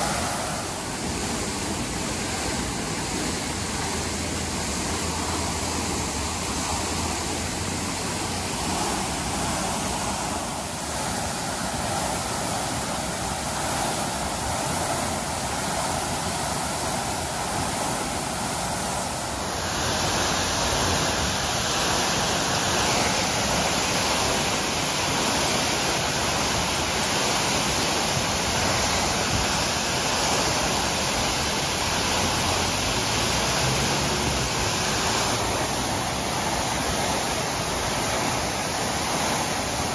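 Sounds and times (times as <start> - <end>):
water gushing from hydrant: 0.0 - 39.9.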